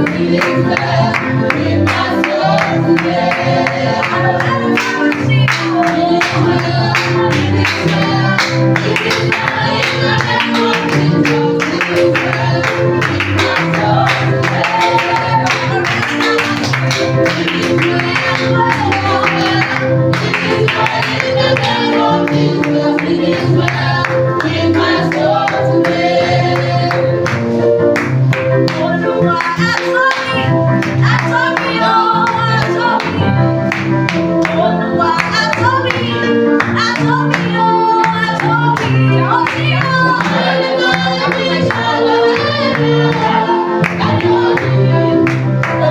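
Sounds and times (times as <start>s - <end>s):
people singing: 0.0s - 45.9s.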